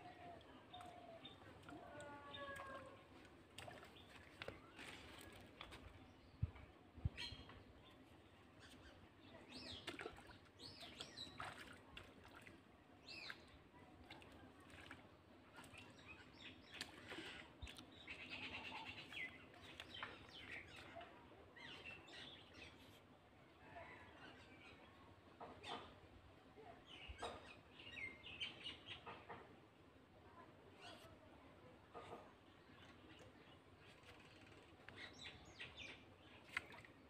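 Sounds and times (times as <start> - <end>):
faint birdsong: 0.0 - 37.0.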